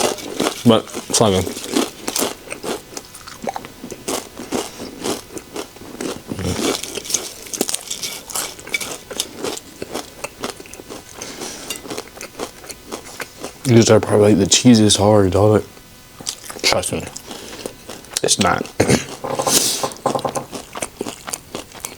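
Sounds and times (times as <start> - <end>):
chewing crunchy chips: 0.0 - 14.0, 16.2 - 21.9.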